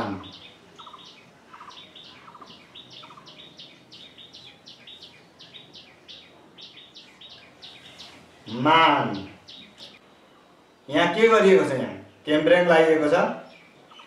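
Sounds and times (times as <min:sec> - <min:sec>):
small bird chirping: 0:00.0 - 0:10.8, 0:13.4 - 0:14.0.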